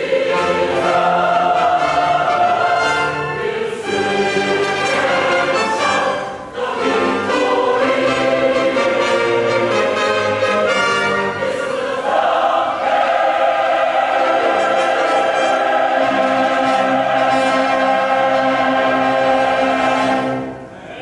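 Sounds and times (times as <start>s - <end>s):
choir singing with accompaniment: 0.0s - 21.0s.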